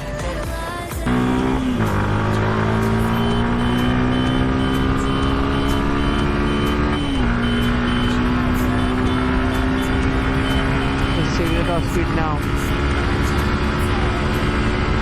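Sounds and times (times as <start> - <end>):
motorcycle engine accelerating: 1.0 - 15.0.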